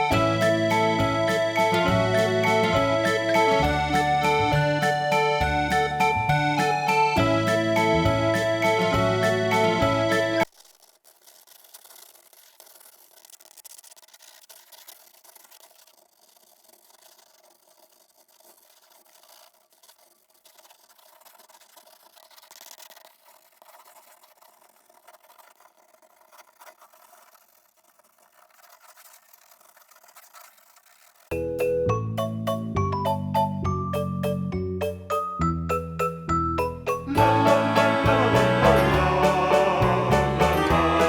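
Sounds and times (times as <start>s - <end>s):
coloring tool rubbing on paper: 0.0s - 31.3s, 37.1s - 41.0s.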